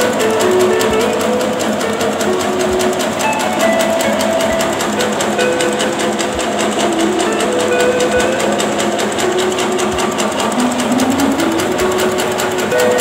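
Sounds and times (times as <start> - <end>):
background music: 0.0 - 13.0
machine clattering: 0.0 - 13.0.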